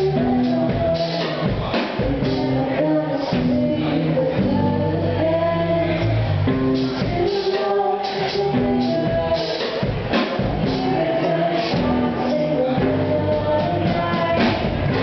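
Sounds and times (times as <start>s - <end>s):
drum kit with cymbal hits: 0.0s - 15.0s
electric guitar: 0.0s - 15.0s
live rock band playing: 0.0s - 15.0s.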